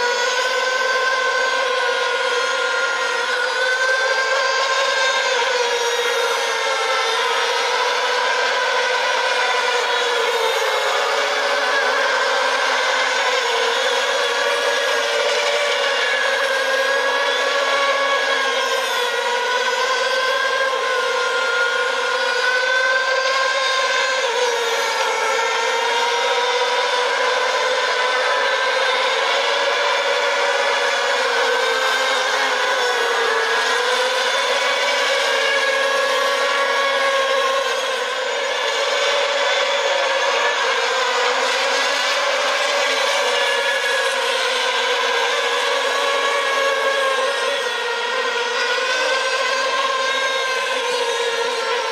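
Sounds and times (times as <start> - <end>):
model boat electric motors whining: 0.0 - 51.9.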